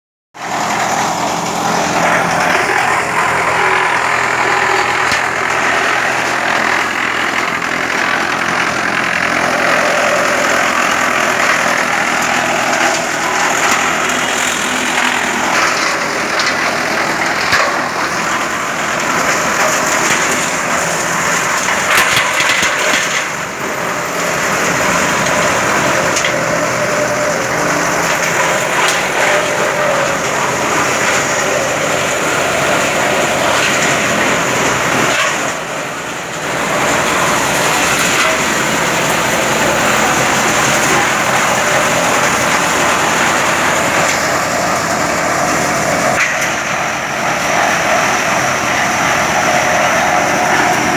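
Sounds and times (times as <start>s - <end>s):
wood chipper running: 0.4s - 50.9s.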